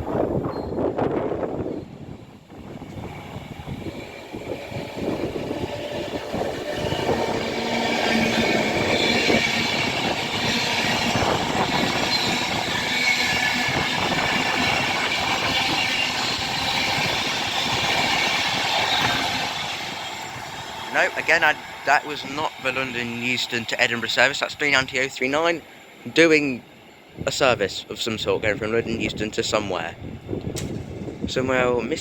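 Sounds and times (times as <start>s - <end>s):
wheel-and-rail noise: 0.0s - 27.6s
electric train passing: 0.0s - 31.4s.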